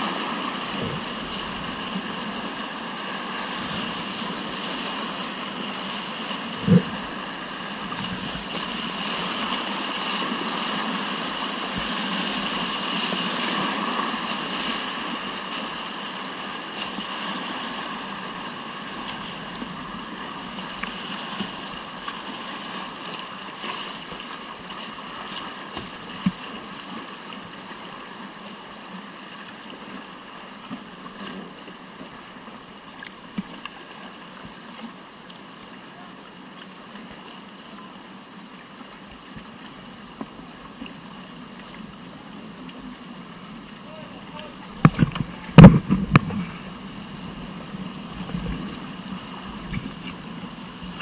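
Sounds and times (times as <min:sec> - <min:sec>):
rushing whitewater: 0:00.0 - 0:51.0.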